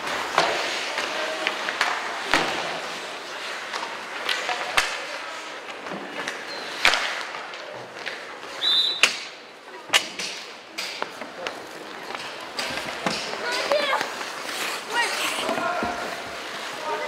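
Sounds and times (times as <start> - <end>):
skate blades scraping on ice: 0.0 - 8.6, 11.5 - 17.0
hockey sticks and puck clacking: 0.0 - 17.0.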